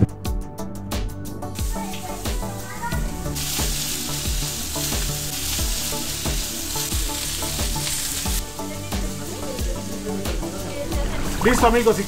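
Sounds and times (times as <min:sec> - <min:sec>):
food sizzling on a griddle: 0:01.6 - 0:12.0.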